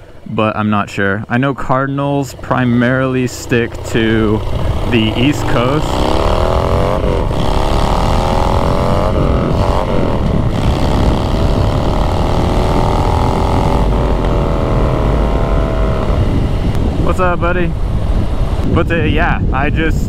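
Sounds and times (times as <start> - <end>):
motorcycle engine running: 1.7 - 18.8
wind rumble on microphone: 2.4 - 20.0.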